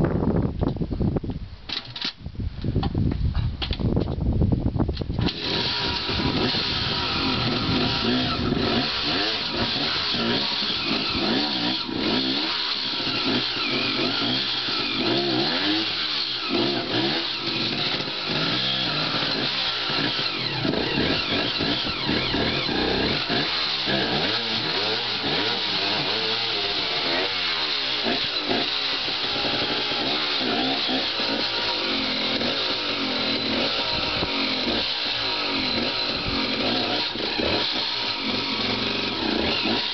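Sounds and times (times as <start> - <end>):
dirt bike engine revving: 5.2 - 39.9.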